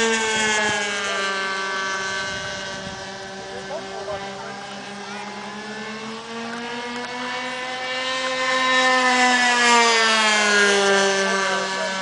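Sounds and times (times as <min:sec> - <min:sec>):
model airplane engine droning: 0:00.0 - 0:12.0
model airplane engine passing: 0:00.0 - 0:12.0.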